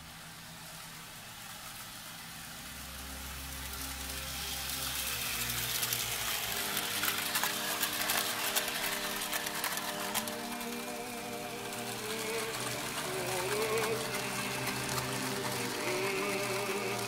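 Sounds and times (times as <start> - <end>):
model train rattling on metal track: 0.0 - 17.0.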